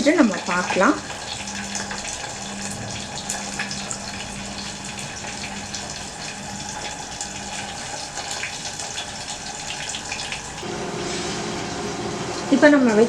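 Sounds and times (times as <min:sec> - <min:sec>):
microwave hissing and humming: 0:00.0 - 0:13.0.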